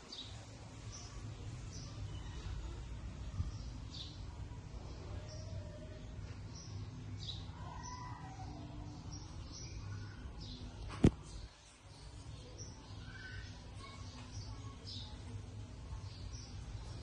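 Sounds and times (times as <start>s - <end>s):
steady low hum: 0.0s - 17.0s
faint bird chirps: 0.1s - 17.0s.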